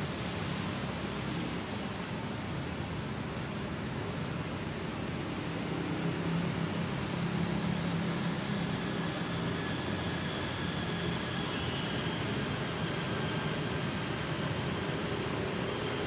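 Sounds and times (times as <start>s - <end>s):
constant hiss: 0.0s - 16.0s.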